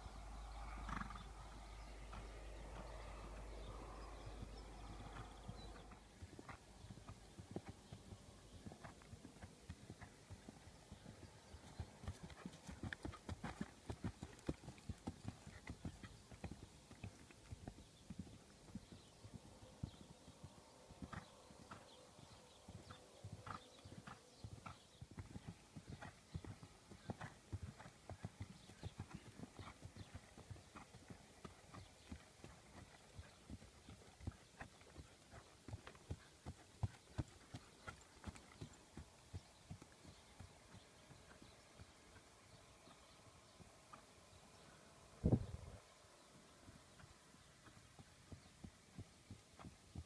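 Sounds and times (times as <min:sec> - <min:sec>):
faint horse hoofbeats on ground: 0:00.0 - 0:44.6, 0:46.4 - 0:50.0.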